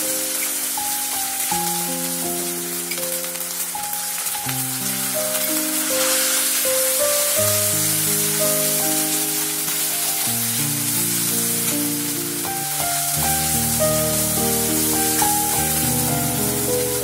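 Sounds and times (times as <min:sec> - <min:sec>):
background music with held notes: 0:00.0 - 0:17.0
paste sizzling in hot oil: 0:00.0 - 0:17.0.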